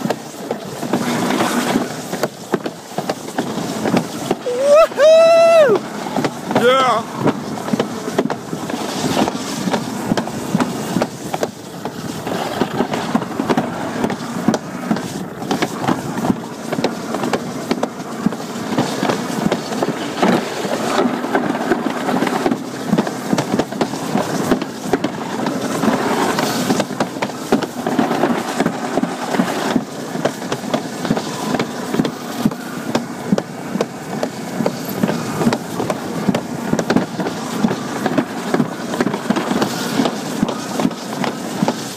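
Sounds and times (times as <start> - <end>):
sled rumbling down track: 0.0 - 41.9.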